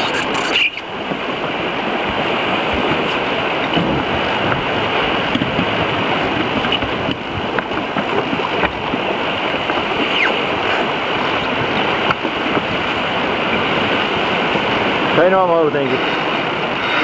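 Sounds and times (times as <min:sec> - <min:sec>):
water along boat hull: 0:00.0 - 0:17.0
wind on microphone: 0:00.0 - 0:17.0.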